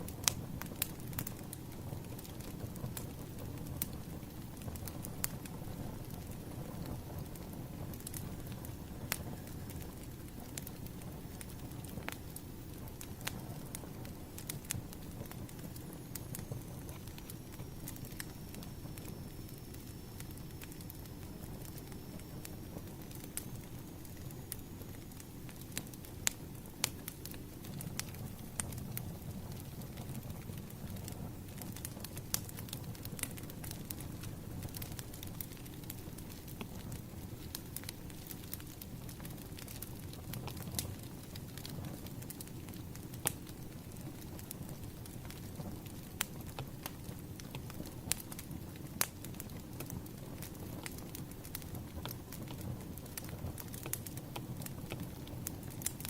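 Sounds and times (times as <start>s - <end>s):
burning logs popping: 0.0s - 56.0s
low rush of flame: 0.0s - 56.0s
wood fire crackling: 0.0s - 56.0s.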